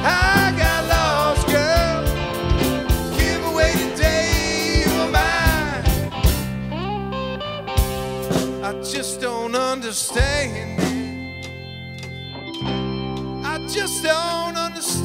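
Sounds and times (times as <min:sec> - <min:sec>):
bending lead guitar melody: 0:00.0 - 0:15.0
live rock band playing: 0:00.0 - 0:15.0.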